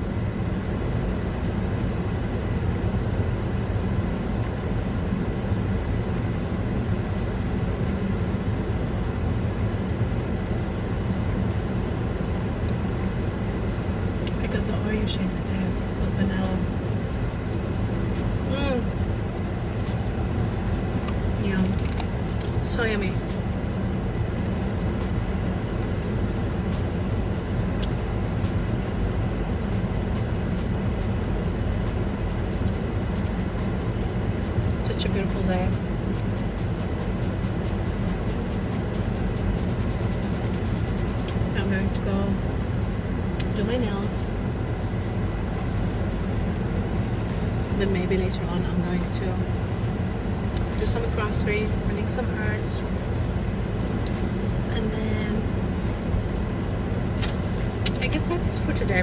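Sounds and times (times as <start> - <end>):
car idling rumble: 0.0 - 59.0.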